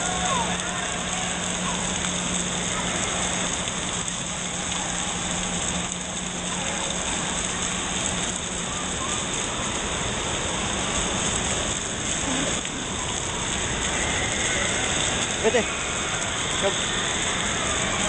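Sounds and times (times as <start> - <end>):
splashing water rushing: 0.0 - 18.0.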